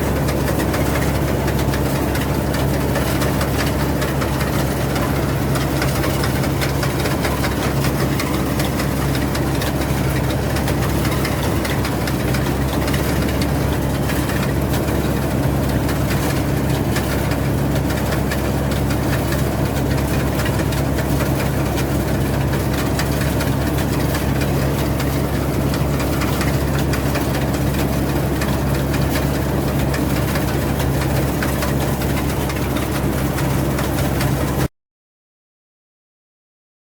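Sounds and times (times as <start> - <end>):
combine harvester engine drone: 0.0 - 34.7.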